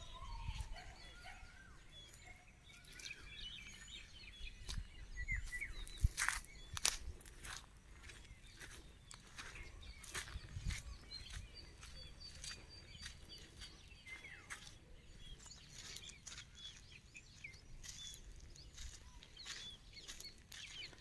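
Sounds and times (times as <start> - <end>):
footsteps on dry ground: 0.0 - 21.0
small birds chirping: 0.0 - 21.0.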